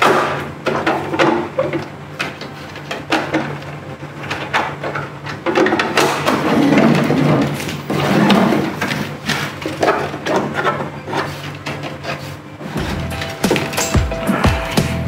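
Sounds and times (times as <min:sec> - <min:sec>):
plastic knocks clicks and scrapes: 0:00.0 - 0:13.9.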